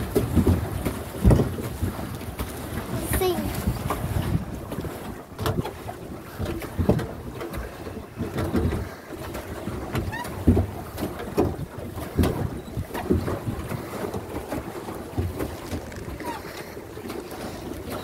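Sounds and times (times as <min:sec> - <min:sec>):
paddle wheel churning water: 0:00.0 - 0:18.0
wind buffeting microphone: 0:00.0 - 0:18.0.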